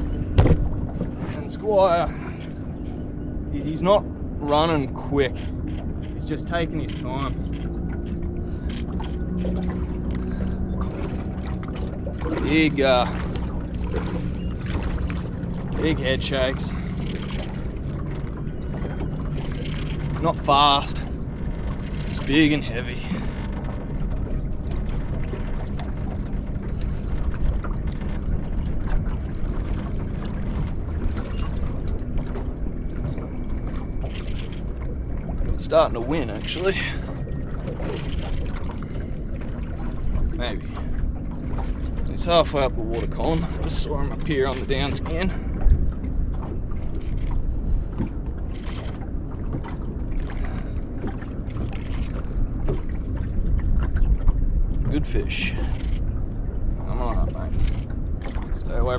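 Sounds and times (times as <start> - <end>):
faint steady hum: 0.0 - 58.9
water around a boat: 0.0 - 58.9.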